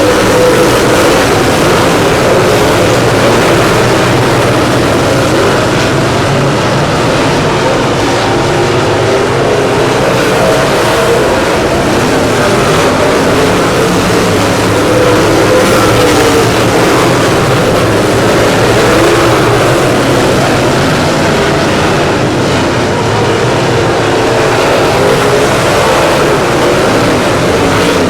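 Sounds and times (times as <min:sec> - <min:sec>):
race car engine running hard: 0:00.0 - 0:28.0.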